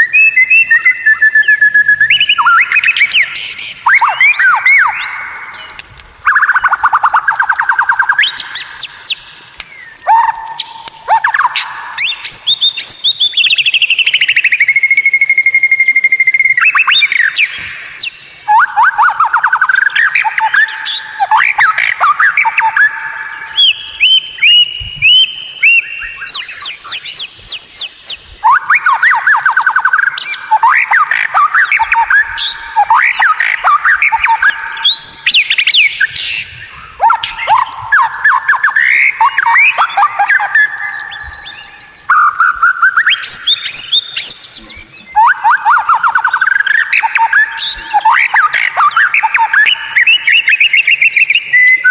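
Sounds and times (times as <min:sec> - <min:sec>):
songbird trills and whistles: 0:00.0 - 0:51.9.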